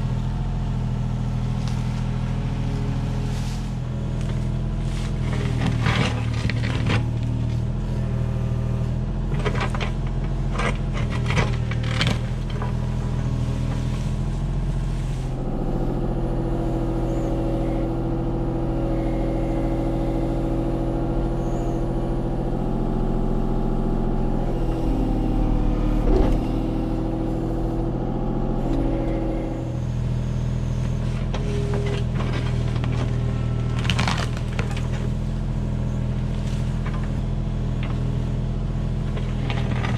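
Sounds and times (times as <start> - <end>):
excavator diesel engine running: 0.0 - 39.9
hydraulics whining: 0.0 - 39.9.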